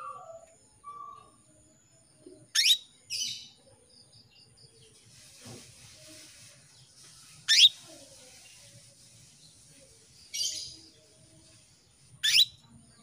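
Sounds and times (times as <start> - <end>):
soft rough canary chirp: 2.2 - 13.0.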